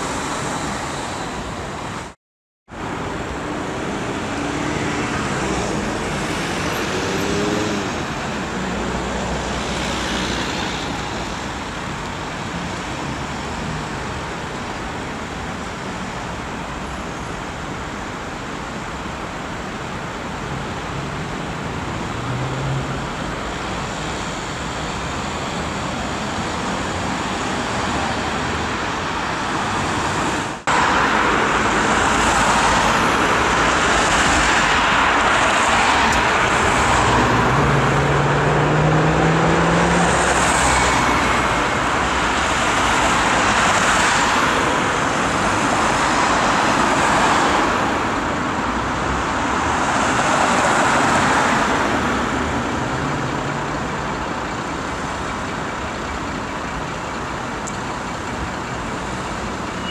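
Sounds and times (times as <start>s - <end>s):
vehicles driving past: 0.0s - 15.8s, 19.9s - 59.9s
steady traffic: 0.0s - 59.9s.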